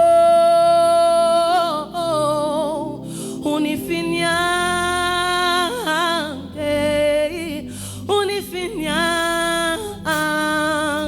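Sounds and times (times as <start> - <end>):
person singing with vibrato: 0.0 - 11.0.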